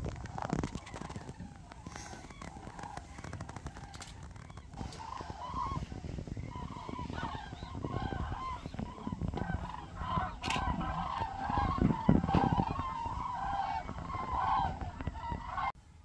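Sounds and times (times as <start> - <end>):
cranes trumpeting calls: 0.6 - 15.8.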